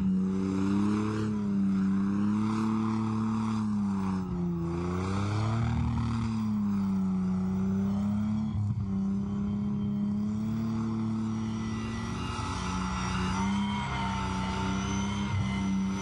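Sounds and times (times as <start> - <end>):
tank engine running: 0.0 - 16.0.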